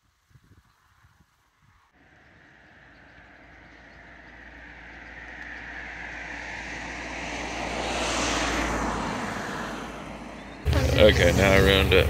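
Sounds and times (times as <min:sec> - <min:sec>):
vehicle passing by: 0:02.0 - 0:12.0.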